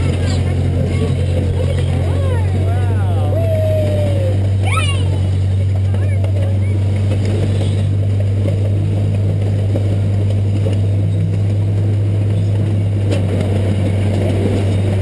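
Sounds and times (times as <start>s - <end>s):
miniature train engine humming: 0.0s - 15.0s.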